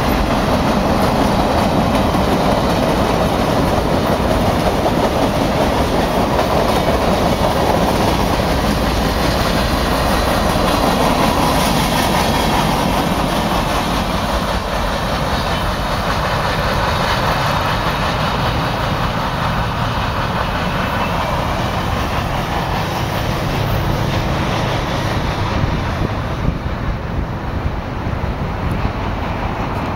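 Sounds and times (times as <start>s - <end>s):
freight train cars rumbling: 0.0s - 29.9s.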